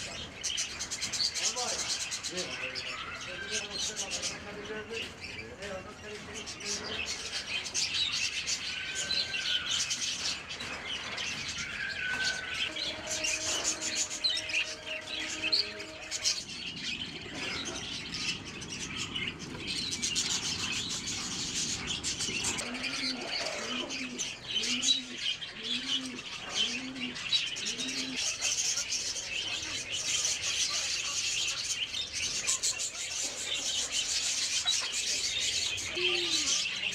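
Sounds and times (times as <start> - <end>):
budgerigars chirping: 0.0 - 5.4, 6.4 - 36.9
pigeons cooing: 6.4 - 36.9.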